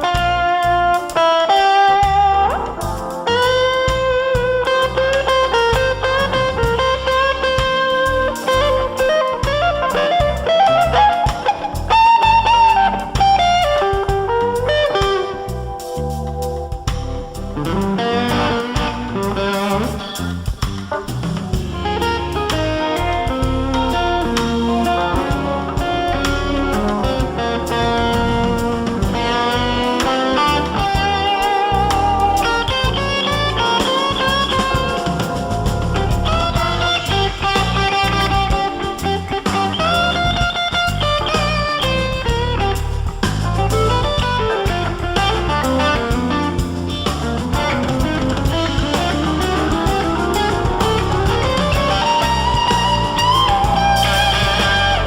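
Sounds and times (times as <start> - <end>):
bass: 0.0 - 55.0
drum kit: 0.0 - 55.0
electric guitar melody: 0.0 - 55.0.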